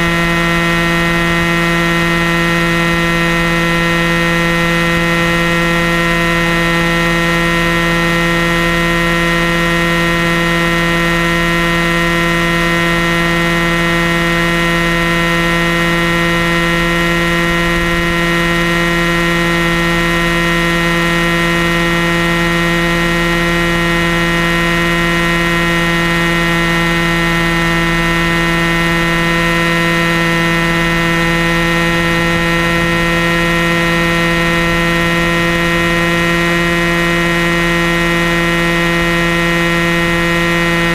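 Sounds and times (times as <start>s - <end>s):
rc helicopter flying: 0.0s - 40.9s.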